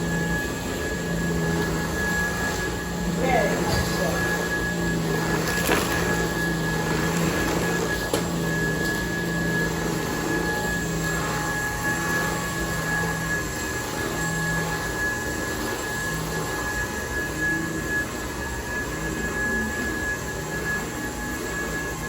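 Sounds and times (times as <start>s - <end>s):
stick vacuum running: 0.0s - 22.0s.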